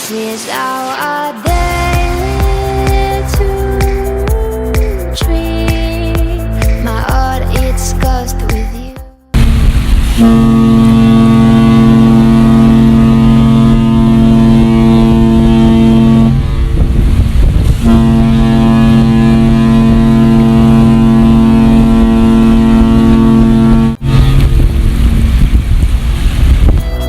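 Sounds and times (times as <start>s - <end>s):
ship horn blasts: 1.6s - 7.0s, 9.4s - 27.0s.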